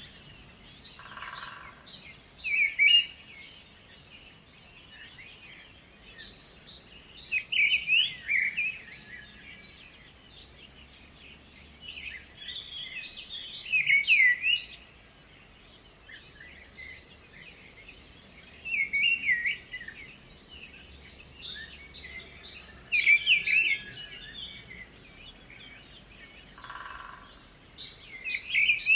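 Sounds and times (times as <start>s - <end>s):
loud songbird song phrase: 0.0s - 28.9s.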